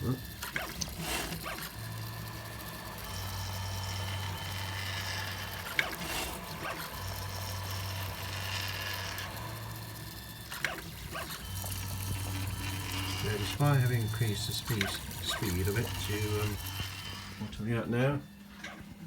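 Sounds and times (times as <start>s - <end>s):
stepper motor hum and whine: 0.0s - 18.3s.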